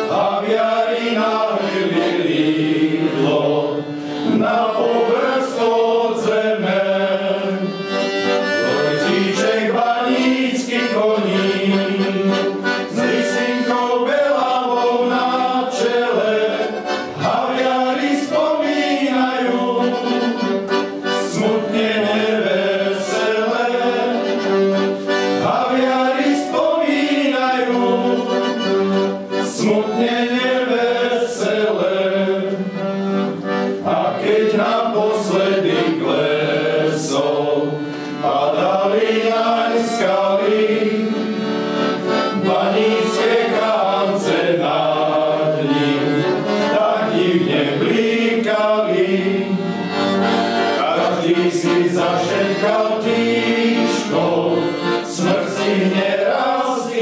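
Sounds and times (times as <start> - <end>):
male choir singing in harmony: 0.0 - 57.0.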